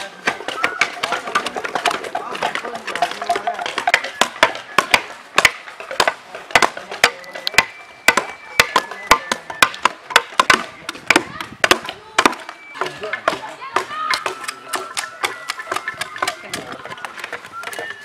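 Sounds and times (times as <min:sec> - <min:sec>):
knives chopping wooden blocks: 0:00.0 - 0:18.0
voices in background: 0:00.0 - 0:18.0.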